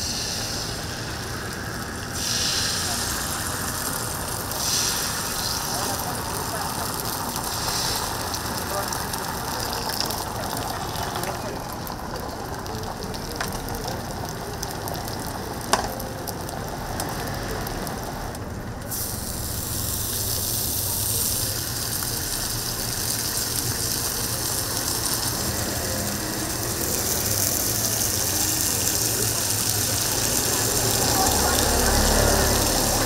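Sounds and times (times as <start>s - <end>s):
food sizzling on a griddle: 0.0s - 33.0s.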